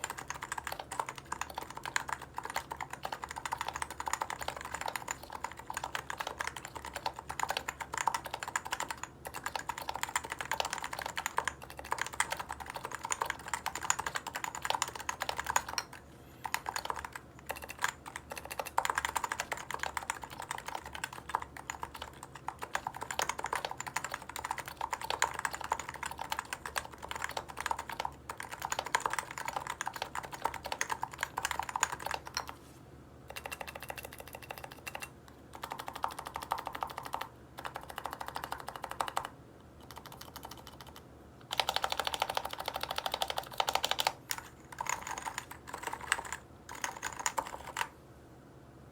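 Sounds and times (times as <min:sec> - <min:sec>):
typing on keyboard: 0:00.0 - 0:32.6, 0:33.3 - 0:48.0.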